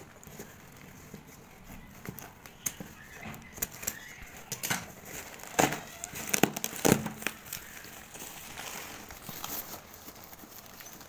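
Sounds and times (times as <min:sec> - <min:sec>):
cloth and package rustling: 0:00.0 - 0:11.0
handling noises: 0:00.0 - 0:11.0.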